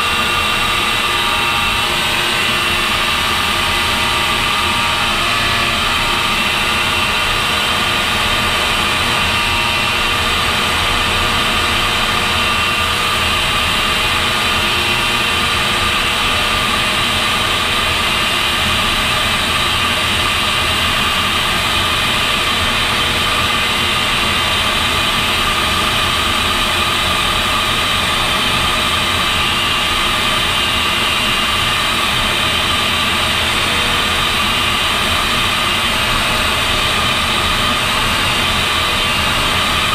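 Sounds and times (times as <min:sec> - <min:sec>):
jet engine roar with whine: 0:00.0 - 0:39.9.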